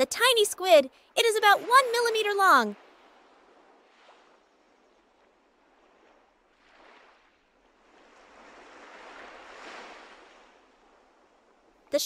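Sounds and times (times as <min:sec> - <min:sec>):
faint ocean waves washing: 0:00.0 - 0:12.0.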